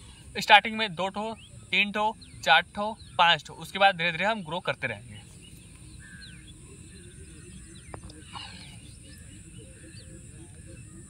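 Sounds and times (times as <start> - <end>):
bird chirps: 0.0 - 11.0
high insect hum: 0.0 - 11.0.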